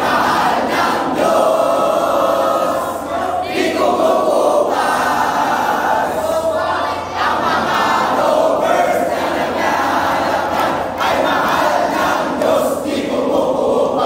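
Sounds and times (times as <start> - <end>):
group singing and chanting: 0.0 - 14.0.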